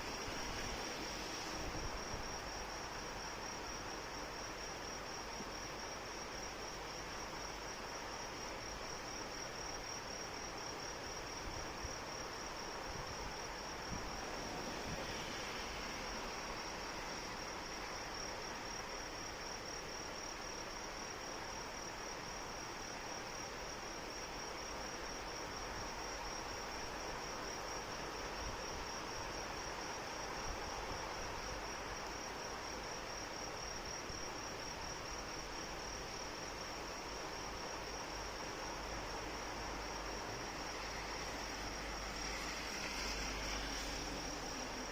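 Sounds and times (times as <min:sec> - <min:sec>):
steady rain: 0:00.0 - 0:44.9.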